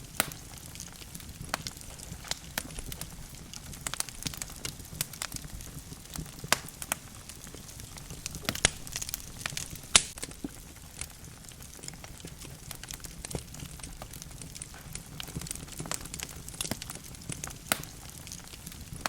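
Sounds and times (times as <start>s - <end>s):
logs crackling in fireplace: 0.0s - 19.0s.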